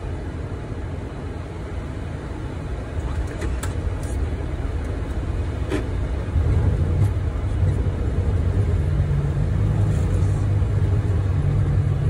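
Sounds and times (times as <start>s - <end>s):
low rumble of airflow and wheels: 0.0s - 12.0s.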